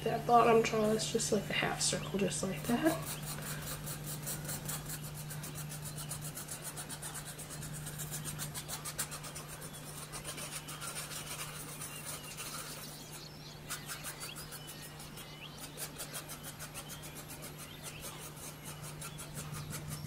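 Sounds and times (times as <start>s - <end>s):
pencil scratching on paper: 2.6s - 20.0s.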